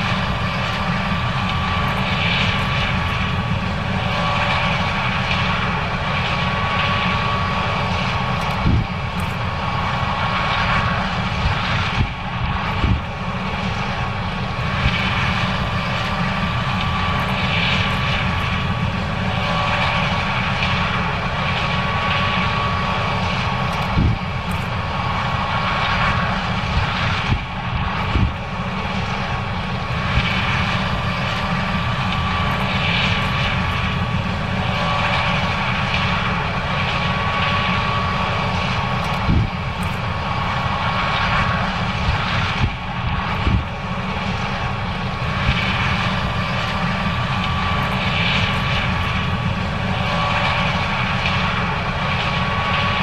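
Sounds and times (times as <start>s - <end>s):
combine engine low drone: 0.0s - 53.0s
steady high machinery whine: 0.0s - 53.0s.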